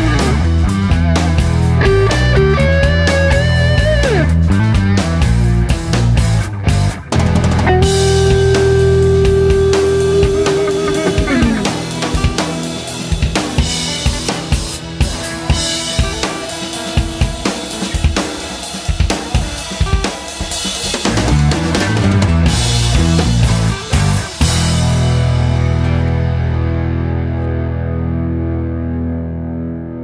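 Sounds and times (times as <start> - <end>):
drum kit beat: 0.0 - 26.0.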